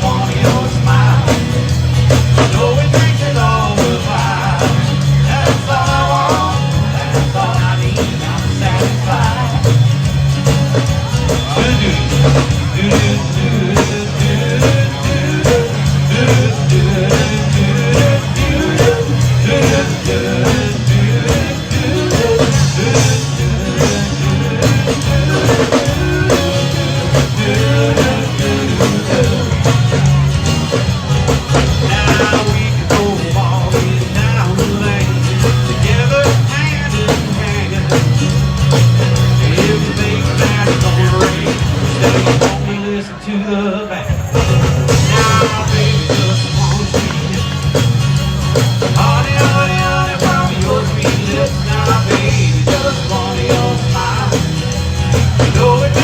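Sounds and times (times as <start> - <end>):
rock and roll band music: 0.0 - 56.0.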